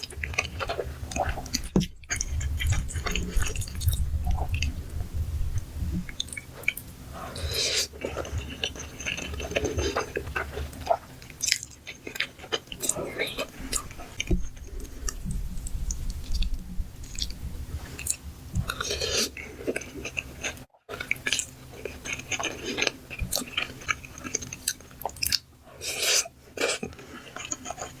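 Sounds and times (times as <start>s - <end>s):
chewing spaghetti: 0.0s - 4.9s, 6.0s - 28.0s.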